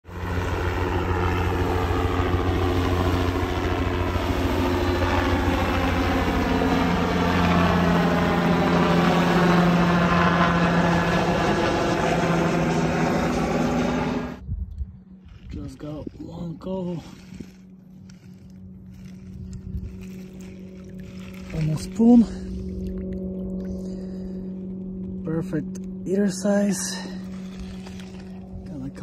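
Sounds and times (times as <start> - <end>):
helicopter engine hum: 0.0 - 29.0
helicopter rotor beating: 0.0 - 29.0.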